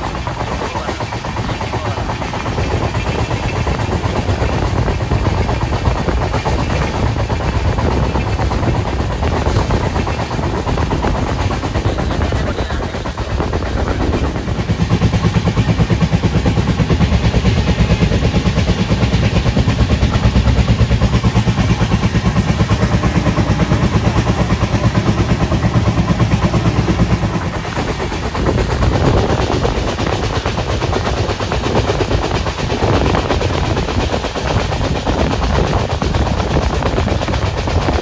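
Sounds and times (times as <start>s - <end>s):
diesel locomotive thumping: 0.0s - 38.0s
moving train rushing: 0.0s - 38.0s.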